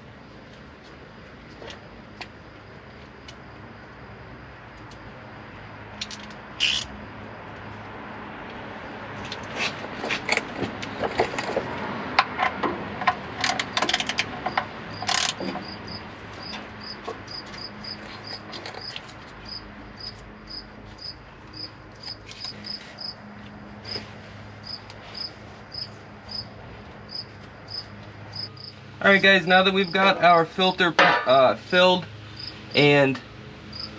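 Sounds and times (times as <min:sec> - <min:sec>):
cricket chirping: 0:00.2 - 0:08.2, 0:13.4 - 0:33.0, 0:33.7 - 0:33.9.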